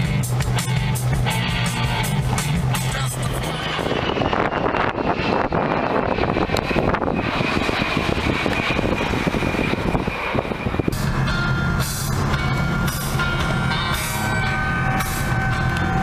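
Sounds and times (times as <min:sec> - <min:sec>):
jet engine rumble: 0:00.0 - 0:16.0
low drone with higher tones: 0:00.0 - 0:16.0.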